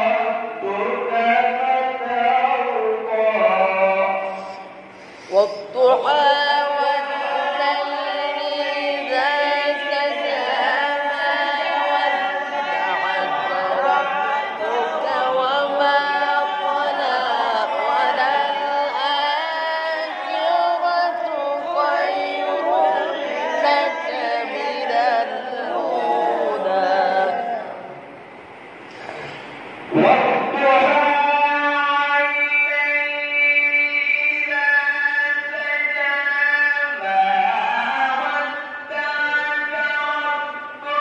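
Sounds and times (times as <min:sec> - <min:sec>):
man chanting recitation: 0:00.0 - 0:28.0, 0:29.9 - 0:41.0.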